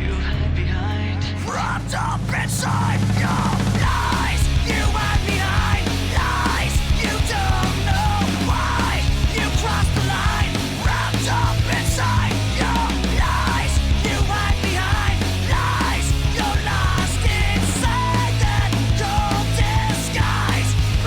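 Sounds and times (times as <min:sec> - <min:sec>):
heavy rock music: 0:00.0 - 0:21.0
bending lead guitar: 0:03.0 - 0:21.0.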